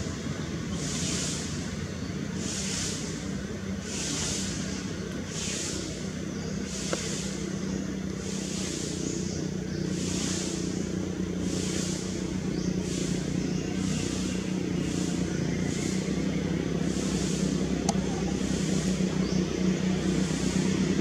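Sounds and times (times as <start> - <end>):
high hissing buzz: 0.0 - 21.0
steady low hum: 0.0 - 21.0.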